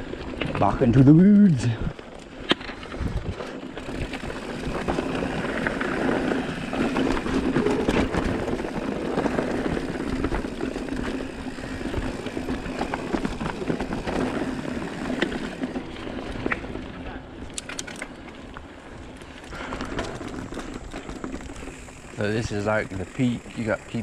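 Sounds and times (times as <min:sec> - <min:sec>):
bike rattling over rocks: 0:00.0 - 0:24.0
bike tyres rolling on dirt: 0:00.0 - 0:24.0.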